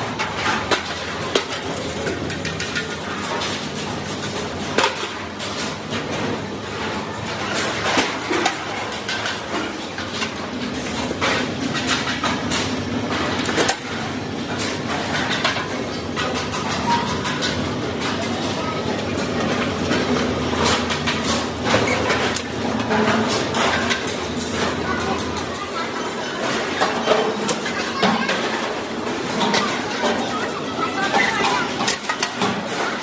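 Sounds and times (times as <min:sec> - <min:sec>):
factory machinery humming: 0:00.0 - 0:33.0.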